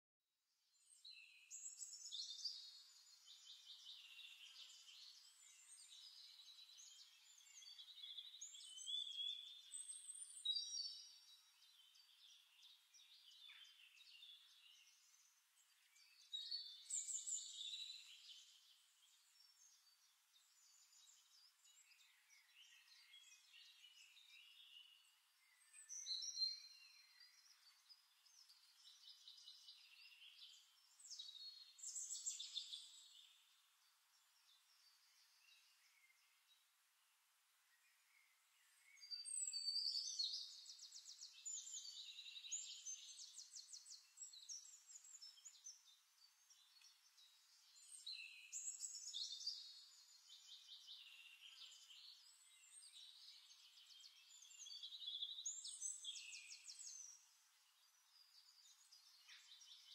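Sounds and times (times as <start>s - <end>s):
faint bird chirps and song: 0.0s - 59.9s.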